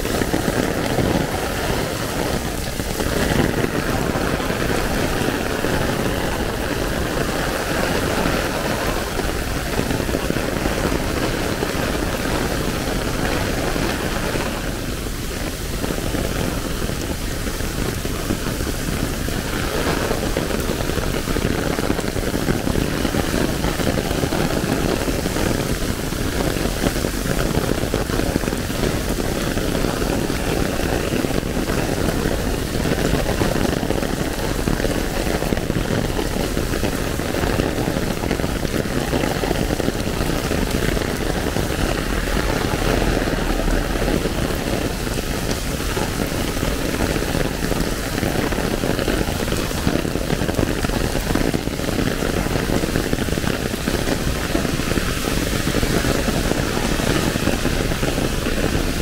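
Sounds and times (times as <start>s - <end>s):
heavy rain on umbrella: 0.0s - 59.0s.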